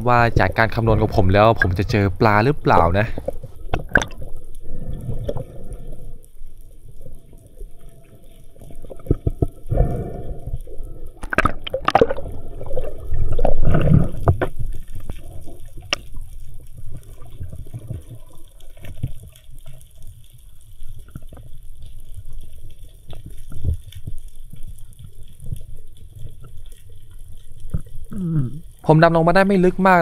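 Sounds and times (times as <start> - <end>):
low underwater rumble: 0.0 - 28.8
underwater water movement: 0.0 - 30.0
small clicks underwater: 0.5 - 28.9.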